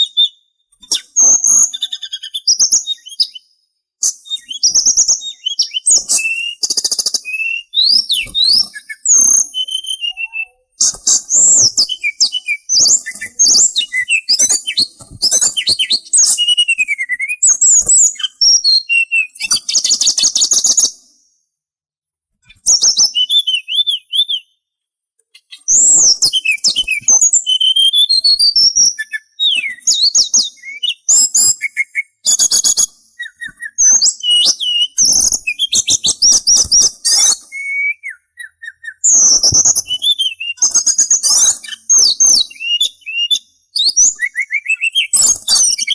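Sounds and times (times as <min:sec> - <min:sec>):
songbird singing whistles and trills: 0:00.0 - 0:21.4, 0:22.4 - 0:45.9.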